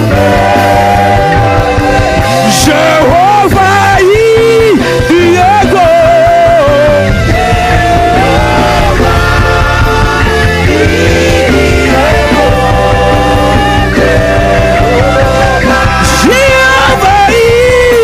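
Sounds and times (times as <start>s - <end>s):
live gospel band playing: 0.0s - 18.0s
pulsing bass beat: 0.0s - 18.0s.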